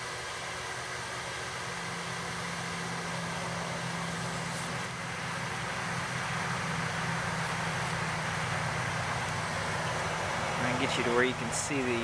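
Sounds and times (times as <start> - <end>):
electric blowers humming: 0.0 - 12.0.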